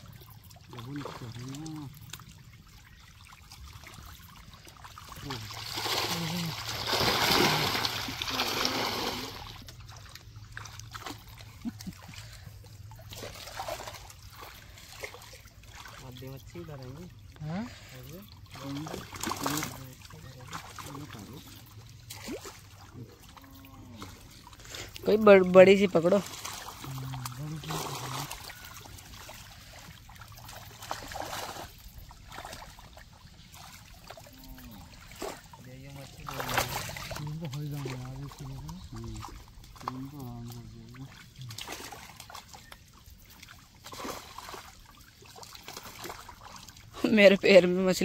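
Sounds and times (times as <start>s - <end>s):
water splashing: 0.0s - 48.0s.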